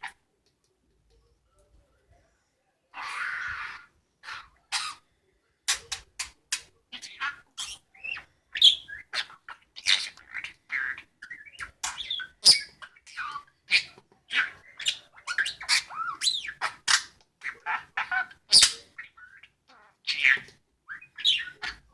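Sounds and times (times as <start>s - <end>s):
budgerigar chattering and chirping: 3.0s - 5.0s, 5.7s - 21.9s.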